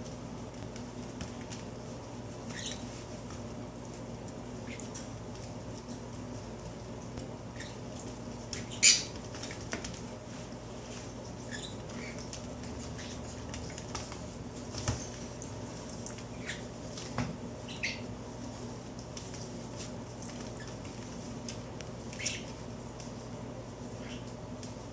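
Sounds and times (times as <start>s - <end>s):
heating vent blowing: 0.0s - 24.9s.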